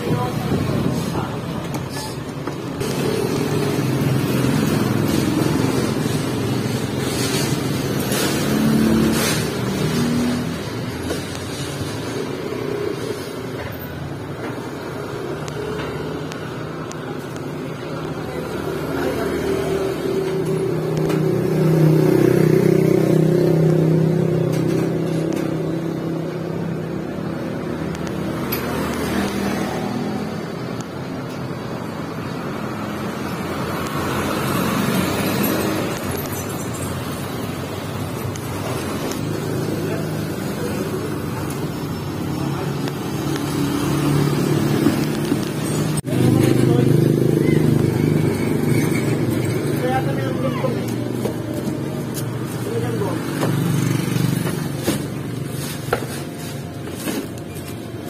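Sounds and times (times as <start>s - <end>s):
street noise: 0.0s - 58.0s.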